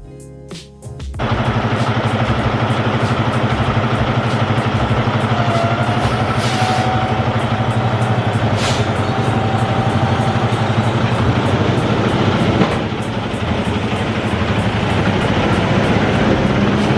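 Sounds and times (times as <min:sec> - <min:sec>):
diesel truck engine running: 0:01.2 - 0:16.9.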